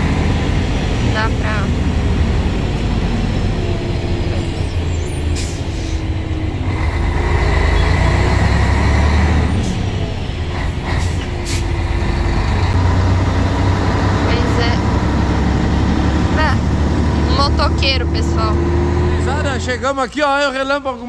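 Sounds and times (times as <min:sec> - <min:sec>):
truck diesel engine rumbling: 0:00.0 - 0:21.0.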